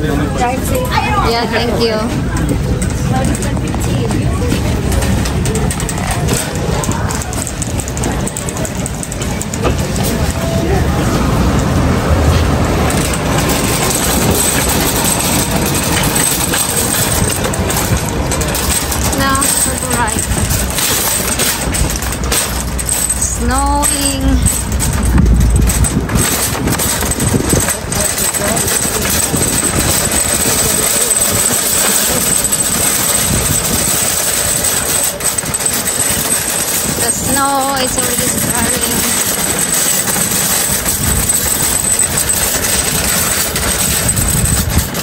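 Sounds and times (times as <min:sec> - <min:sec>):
shopping cart rattling on wheels: 0:00.0 - 0:45.0.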